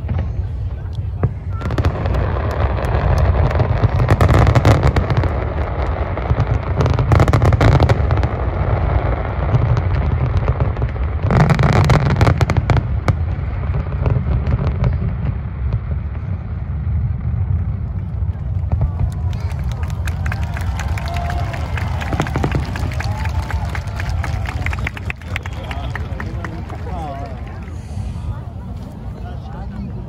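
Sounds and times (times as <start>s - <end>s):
fireworks crackling: 0.0s - 29.2s
fireworks bursting with low rumble: 0.0s - 30.0s.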